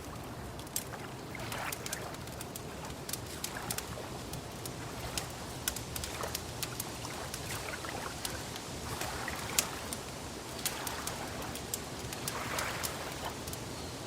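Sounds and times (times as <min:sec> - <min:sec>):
wood fire crackling and popping: 0:00.0 - 0:13.7.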